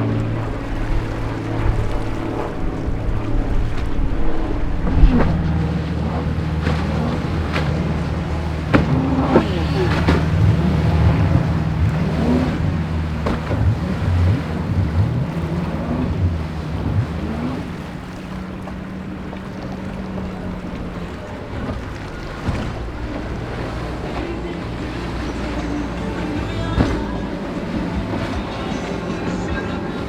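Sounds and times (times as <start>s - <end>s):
powerboat engines: 0.0s - 30.0s
surf: 0.0s - 30.0s
wind on microphone: 0.0s - 30.0s.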